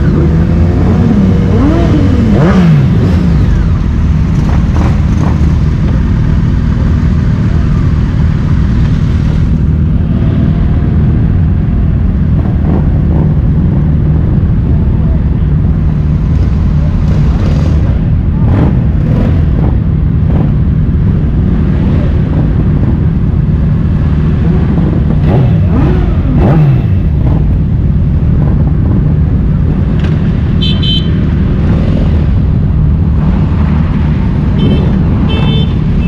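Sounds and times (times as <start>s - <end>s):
motorcycle engines running: 0.0s - 36.0s.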